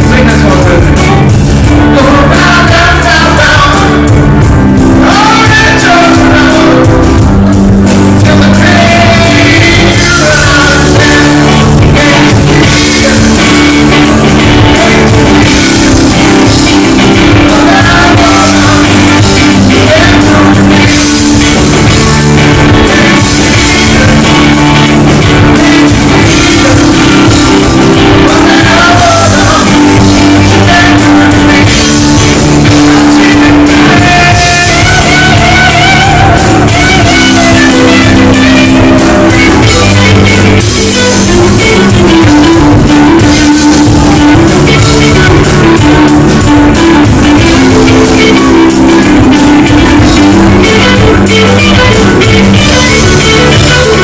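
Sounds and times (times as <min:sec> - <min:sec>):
drum kit: 0:00.0 - 0:54.0
electric guitar: 0:00.0 - 0:54.0
keyboard: 0:00.0 - 0:54.0
lead singer vocals: 0:00.0 - 0:54.0.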